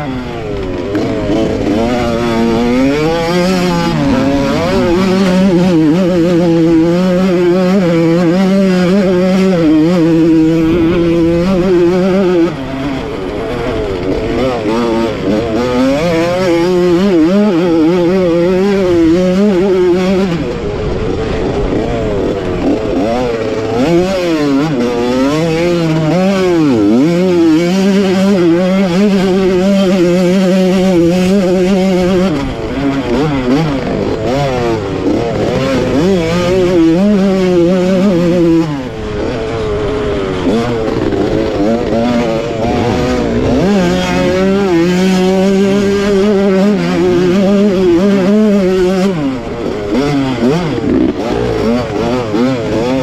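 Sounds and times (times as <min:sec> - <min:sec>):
two-stroke motorcycle engine revving: 0:00.0 - 0:53.0.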